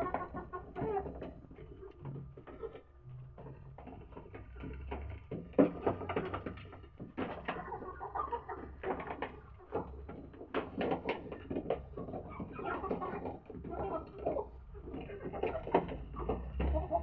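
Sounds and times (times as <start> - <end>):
birds tapping and clicking: 0.0 - 17.0.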